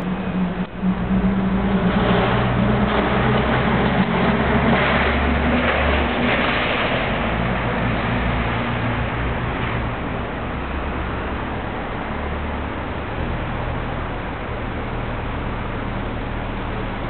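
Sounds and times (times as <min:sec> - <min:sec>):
low car engine hum: 0:00.0 - 0:17.0
tyre and road noise: 0:00.0 - 0:17.0.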